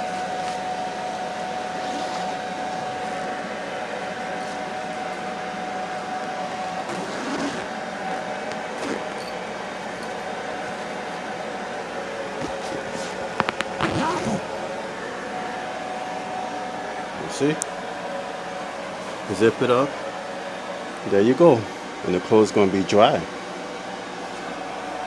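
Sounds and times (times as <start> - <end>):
hot-air blower whining: 0.0 - 25.0.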